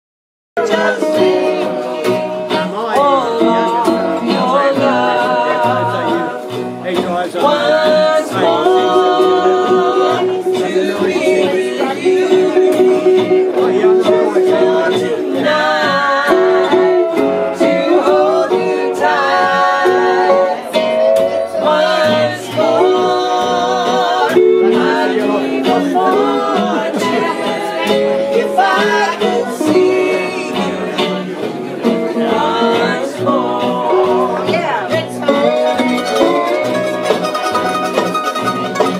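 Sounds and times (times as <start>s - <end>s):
banjo picking: 0.6s - 38.9s
mandolin picking: 0.6s - 38.9s
wavering lead melody: 0.6s - 38.9s.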